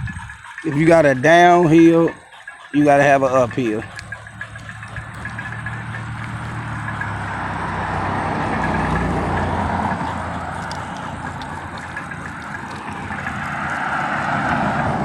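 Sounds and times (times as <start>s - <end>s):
rushing road noise: 0.0s - 15.0s.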